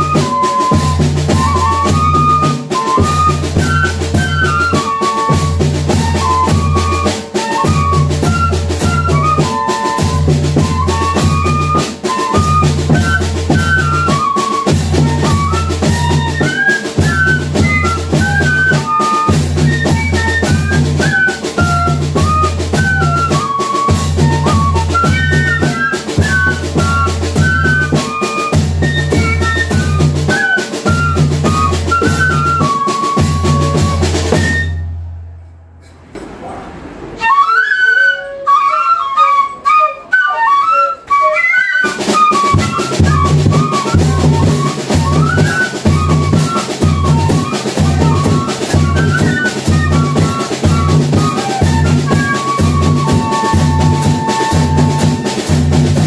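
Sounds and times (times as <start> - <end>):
bass drum and snare drumming: 0.0 - 34.9, 41.8 - 56.0
fife melody: 0.0 - 35.8, 37.1 - 56.0.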